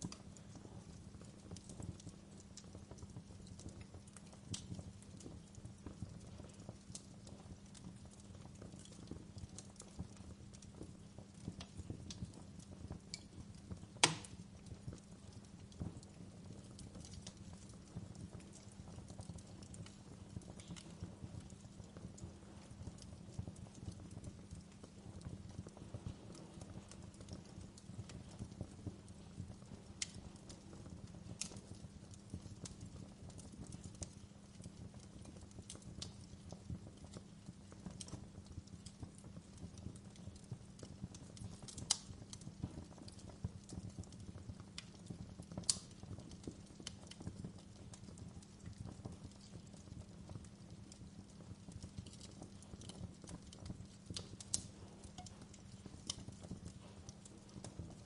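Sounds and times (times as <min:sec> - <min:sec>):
fire crackles and pops: 0:00.0 - 0:58.0
fire flames rumbling: 0:00.0 - 0:58.0.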